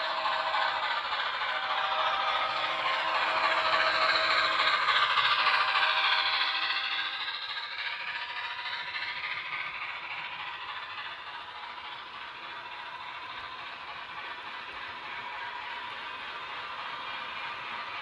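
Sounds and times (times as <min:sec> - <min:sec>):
model train clattering on track: 0:00.0 - 0:18.0.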